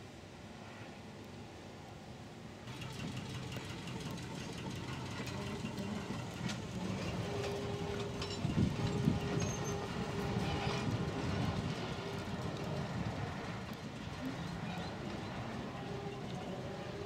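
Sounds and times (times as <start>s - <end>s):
electric train running on track: 2.6s - 17.0s.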